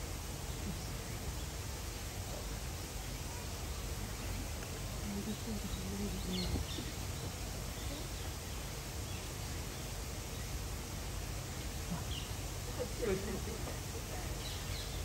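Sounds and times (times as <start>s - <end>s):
outdoor background noise: 0.0s - 15.0s
faint bird chirp: 0.4s - 10.7s, 11.4s - 13.2s, 14.2s - 15.0s.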